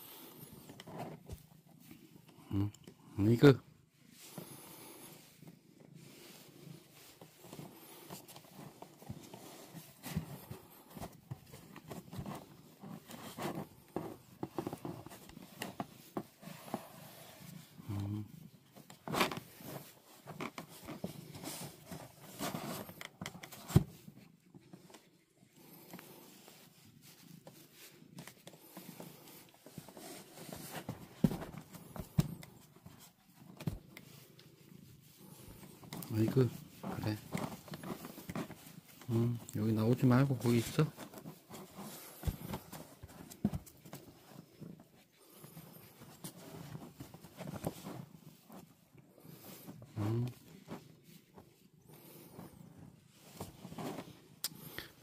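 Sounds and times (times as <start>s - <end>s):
tissue rubbing cat fur: 0.0s - 2.2s, 3.9s - 23.0s, 23.7s - 55.0s.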